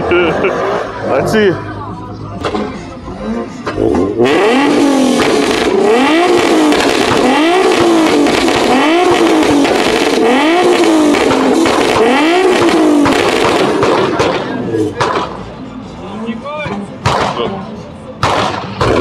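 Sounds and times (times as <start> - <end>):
car engine revving: 0.0 - 1.6, 2.4 - 19.0.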